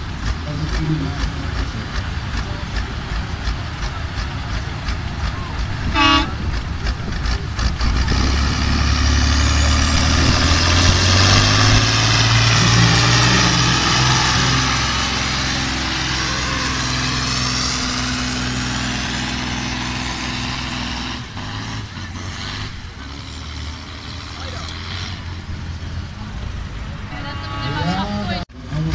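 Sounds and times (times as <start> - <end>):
tractor engine at full power: 0.0 - 28.9.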